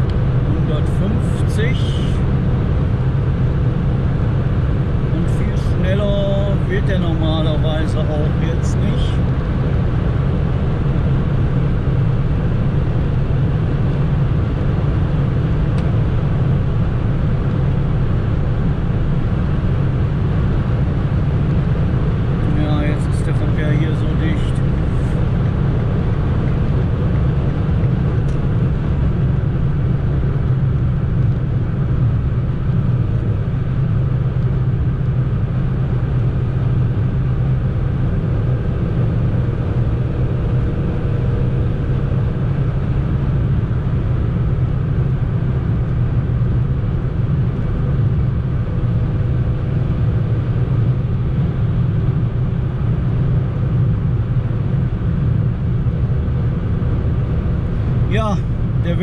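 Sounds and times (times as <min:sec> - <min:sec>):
engine and road noise drone: 0:00.0 - 0:59.0.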